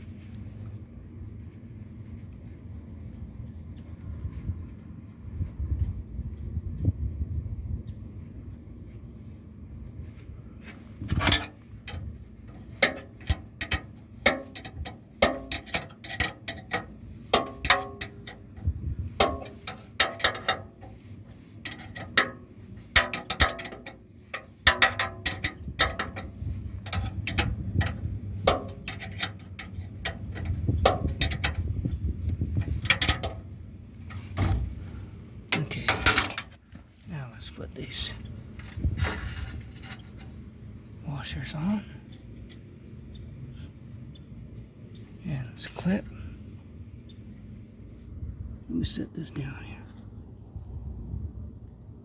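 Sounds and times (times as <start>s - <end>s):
low handling rumble: 0.0s - 52.0s.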